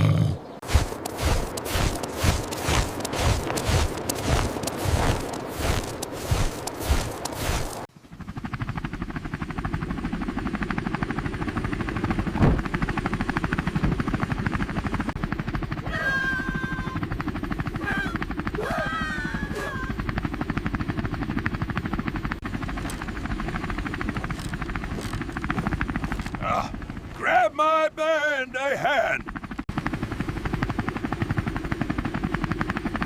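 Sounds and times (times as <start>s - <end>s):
helicopter rotor chopping: 0.1s - 33.0s.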